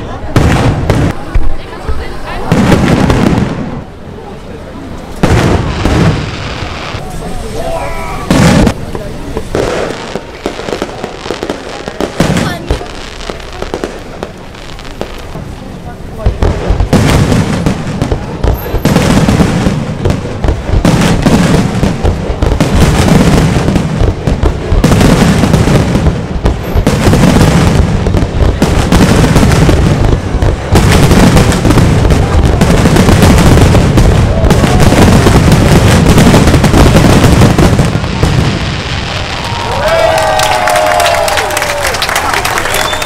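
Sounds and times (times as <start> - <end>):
fireworks booming and crackling: 0.0 - 43.0.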